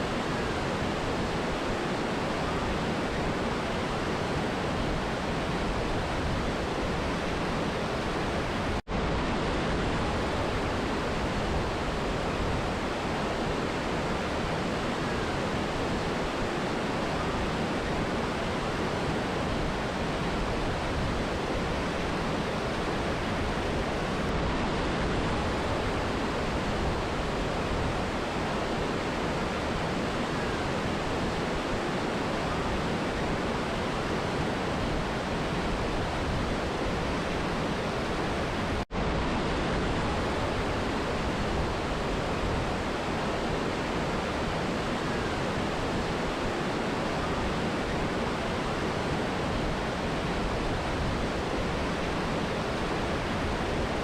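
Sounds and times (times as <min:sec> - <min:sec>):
river and waterfall rushing: 0:00.0 - 0:54.0.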